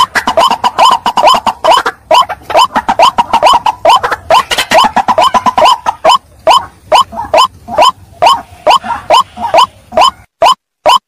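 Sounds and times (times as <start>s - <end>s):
waterhen calling: 0.0s - 11.0s.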